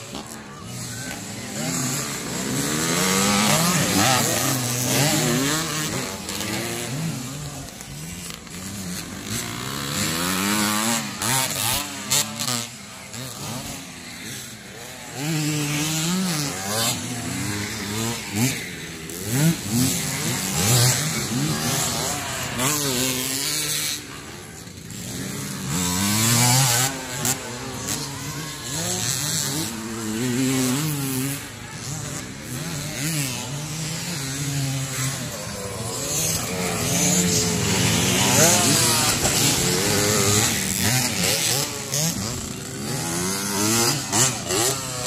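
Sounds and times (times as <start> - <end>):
dirt bike engines revving: 0.0 - 45.0.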